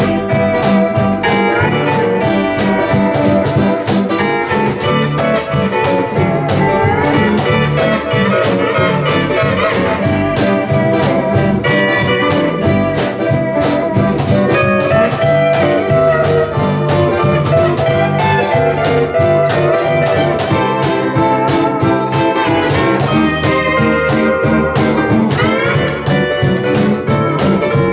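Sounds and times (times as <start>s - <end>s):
bass: 0.0s - 27.9s
percussion steady beat: 0.0s - 27.9s
rhythm guitar: 0.0s - 27.9s
steel guitar sliding melody: 0.0s - 27.9s
ukulele: 0.0s - 27.9s.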